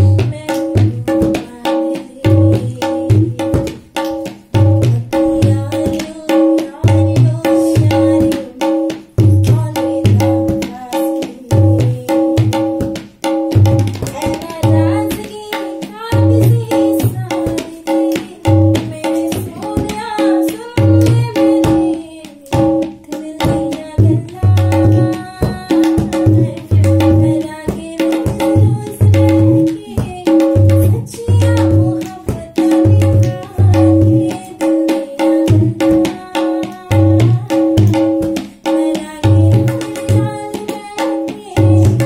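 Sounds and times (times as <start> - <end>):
woman singing: 0.0 - 13.0, 13.6 - 42.0
tabla drumming: 0.0 - 42.0.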